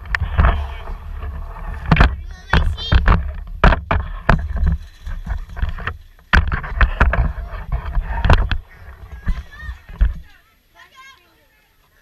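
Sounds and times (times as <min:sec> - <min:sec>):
low rumble: 0:00.0 - 0:09.9
camera knocks and scrapes on fence: 0:00.0 - 0:10.2.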